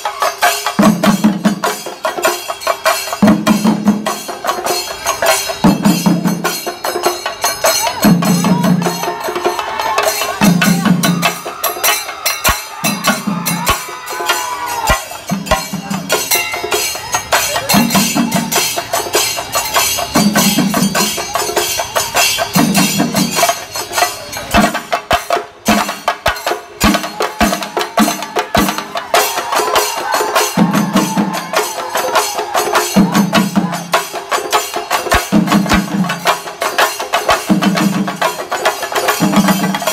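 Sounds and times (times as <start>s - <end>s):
drums beaten fast with sticks: 0.0s - 39.9s.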